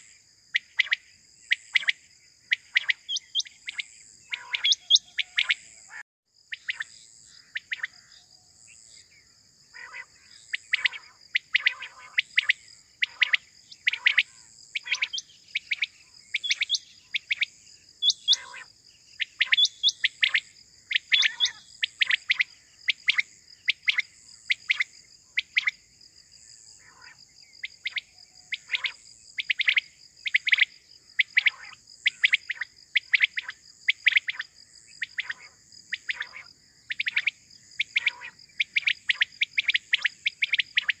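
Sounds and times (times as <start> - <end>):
high insect trill: 0.0 - 41.0
quails chirping: 0.6 - 6.0, 9.8 - 25.7, 27.6 - 34.4, 35.0 - 41.0.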